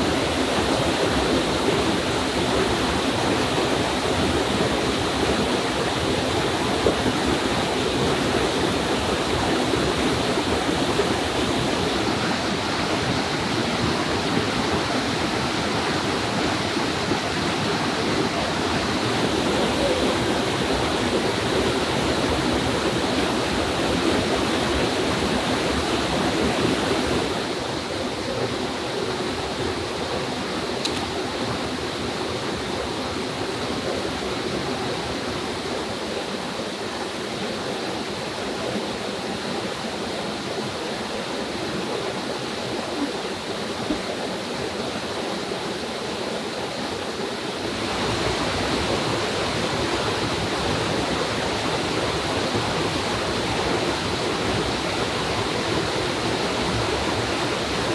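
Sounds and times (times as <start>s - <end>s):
stream water running over rocks: 0.0s - 57.9s.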